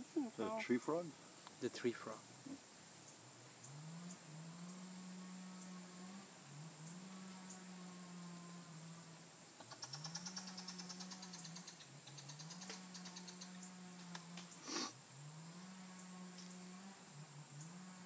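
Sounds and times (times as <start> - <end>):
distant motor drone: 0.0 - 18.0
insects hissing: 0.0 - 18.0.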